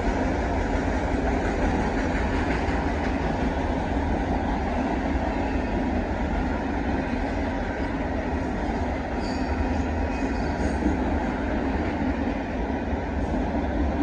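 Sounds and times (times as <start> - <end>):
train wheels rolling on rails: 0.0 - 14.0.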